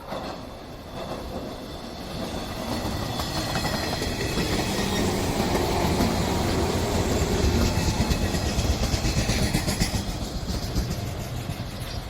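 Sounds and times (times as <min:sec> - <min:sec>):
train wheels clattering over rails: 0:00.0 - 0:12.0.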